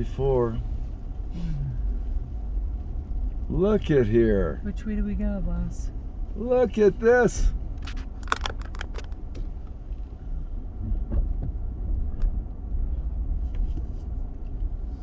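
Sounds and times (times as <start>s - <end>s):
vehicle rumble inside cab: 0.0s - 15.0s.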